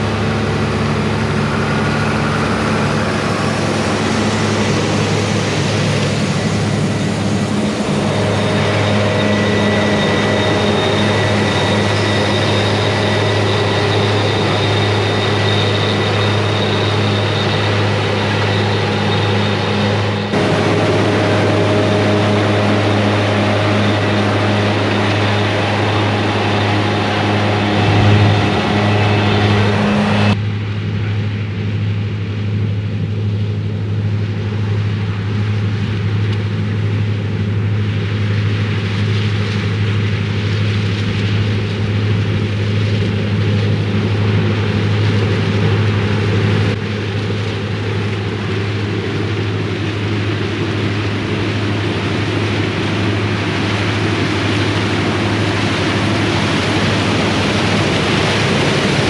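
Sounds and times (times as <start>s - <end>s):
diesel engines humming: 0.0s - 31.2s, 33.2s - 59.0s
thin high whine: 0.0s - 31.3s, 42.4s - 59.0s.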